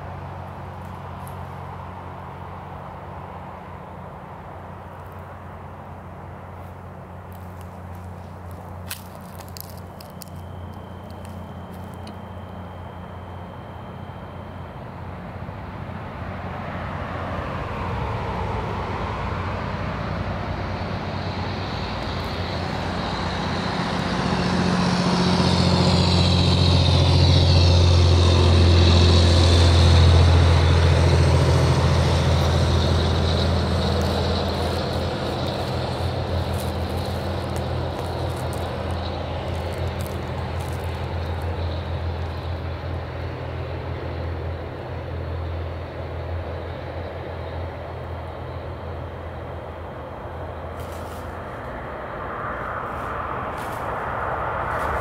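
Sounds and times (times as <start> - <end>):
heavy vehicle passing by: 0.0 - 55.0.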